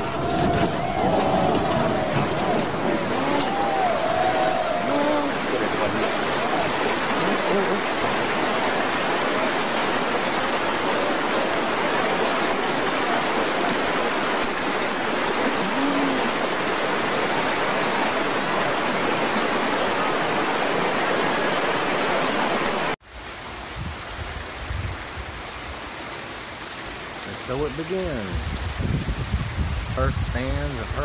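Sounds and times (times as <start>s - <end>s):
rushing floodwater: 0.0s - 31.0s
steady rain: 0.0s - 31.0s.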